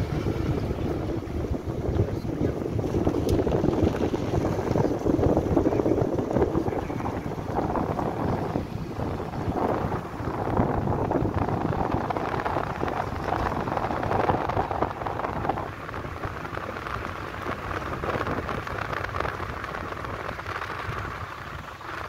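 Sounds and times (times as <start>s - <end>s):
road rumble: 0.0s - 22.0s
wind buffeting on microphone: 0.0s - 22.0s
wind noise from moving car: 0.0s - 22.0s.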